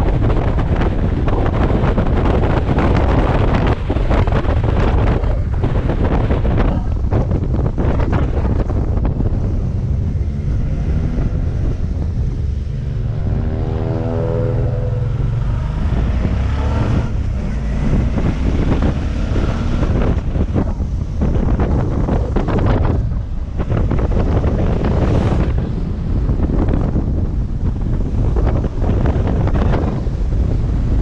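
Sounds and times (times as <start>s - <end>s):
wind buffeting microphone: 0.0s - 31.0s
motorcycle engine: 0.3s - 31.0s.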